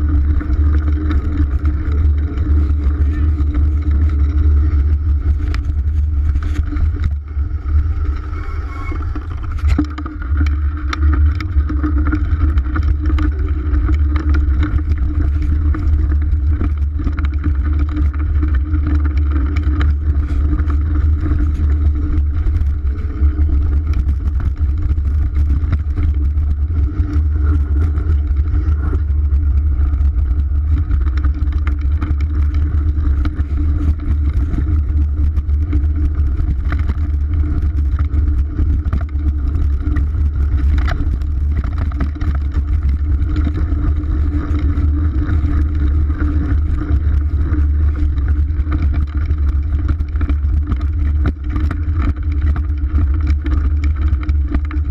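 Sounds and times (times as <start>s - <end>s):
bike clicks and rattles: 0.0s - 54.9s
wind buffeting camera: 0.0s - 54.9s.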